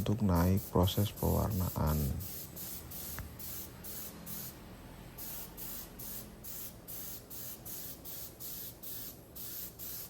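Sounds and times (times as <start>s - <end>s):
spray gun hissing: 0.4s - 10.0s.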